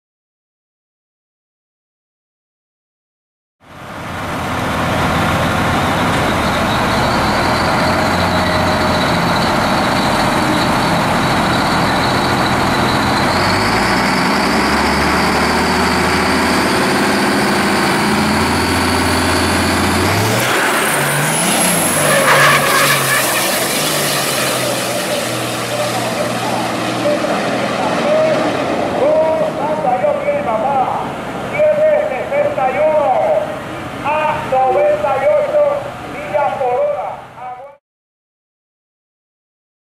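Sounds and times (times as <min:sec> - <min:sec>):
high engine whine: 0:03.6 - 0:37.7
diesel truck engine revving: 0:03.7 - 0:36.4.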